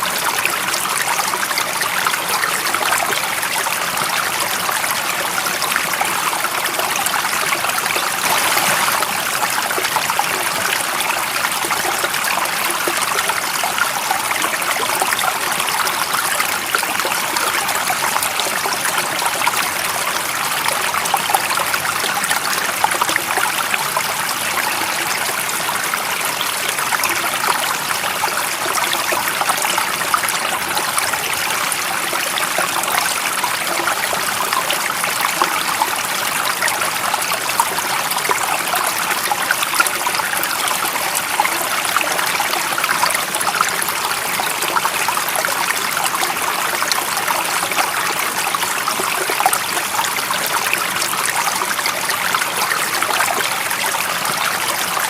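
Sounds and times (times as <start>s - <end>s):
stream water trickling: 0.0s - 55.0s.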